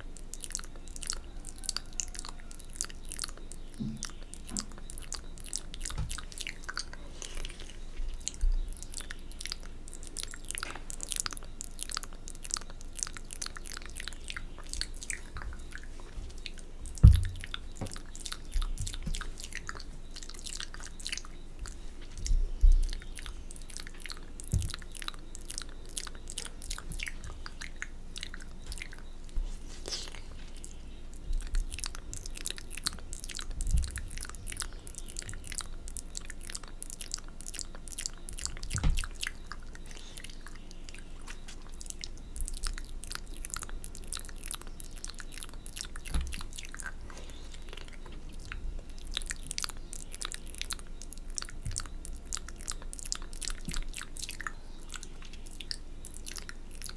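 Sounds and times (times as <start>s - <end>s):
wet lip smacks and licking: 0.0s - 56.9s.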